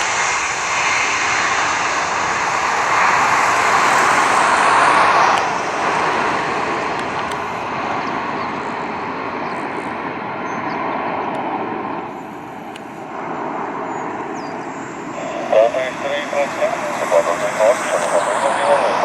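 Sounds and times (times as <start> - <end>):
aircraft engine rushing: 0.0 - 19.0.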